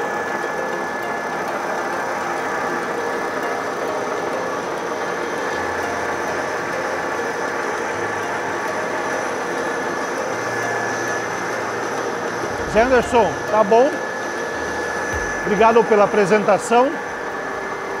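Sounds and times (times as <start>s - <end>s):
high-pitched tones: 0.0s - 17.4s
printing press whirring: 0.0s - 18.0s.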